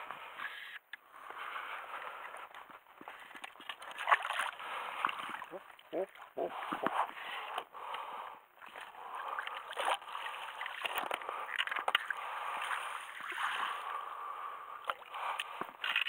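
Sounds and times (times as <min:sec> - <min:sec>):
water sloshing at shoreline: 0:01.9 - 0:08.0, 0:08.6 - 0:16.0.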